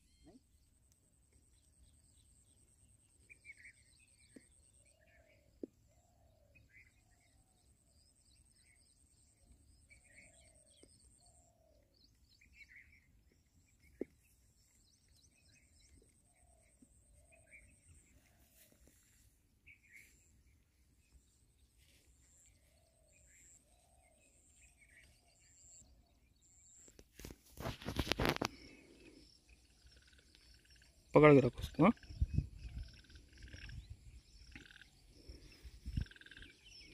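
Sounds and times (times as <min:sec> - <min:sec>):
faint birdsong: 0:00.0 - 0:36.9.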